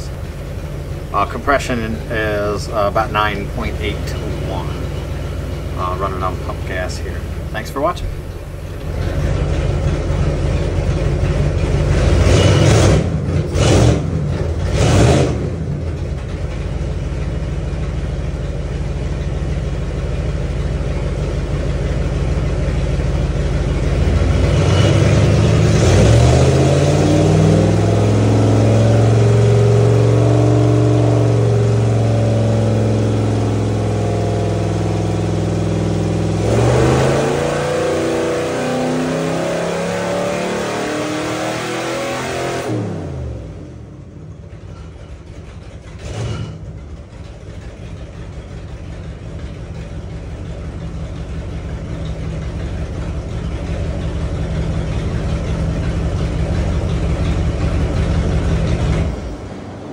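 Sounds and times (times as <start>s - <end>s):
engine running on a dyno: 0.0s - 59.9s.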